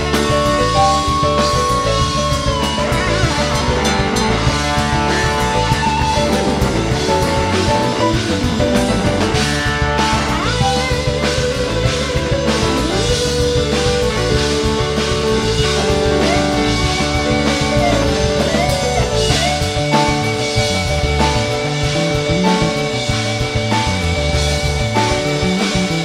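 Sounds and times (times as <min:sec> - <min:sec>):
drum kit: 0:00.0 - 0:26.0
rock guitar lead: 0:00.0 - 0:26.0.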